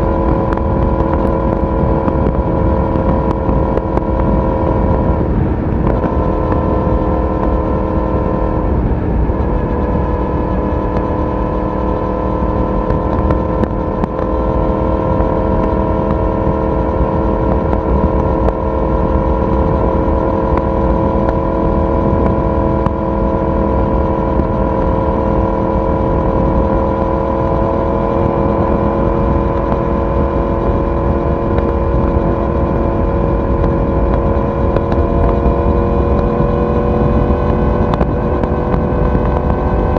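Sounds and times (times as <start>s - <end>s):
motorcycle exhaust cruising: 0.0s - 39.9s.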